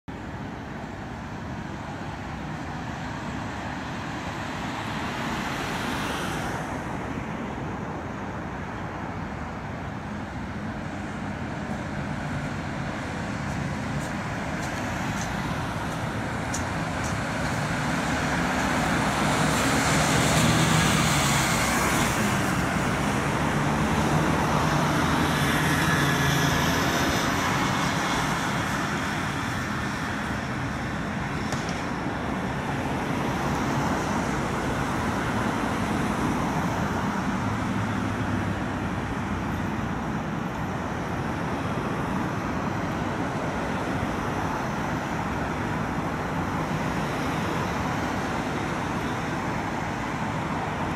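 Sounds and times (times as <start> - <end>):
city road traffic: 0.0 - 50.9
car engine passing close: 9.6 - 50.9.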